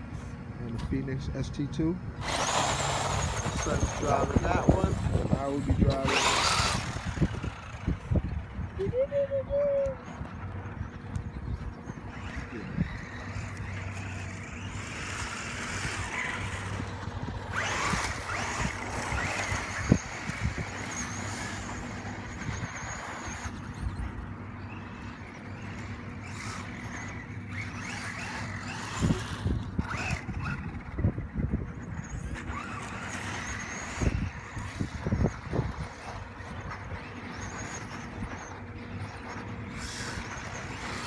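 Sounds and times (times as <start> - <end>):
electric motors and gears whining: 0.0 - 41.0.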